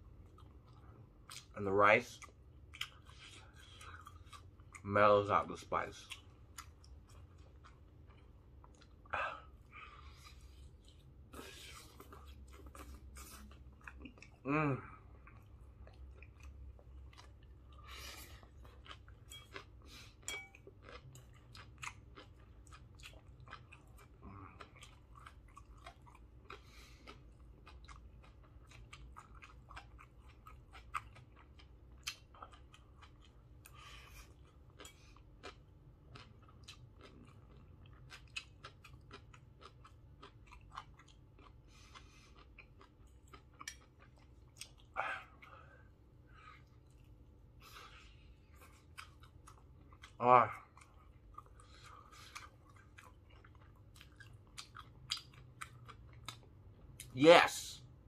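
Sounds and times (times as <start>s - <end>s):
person chewing food: 0.0s - 57.2s.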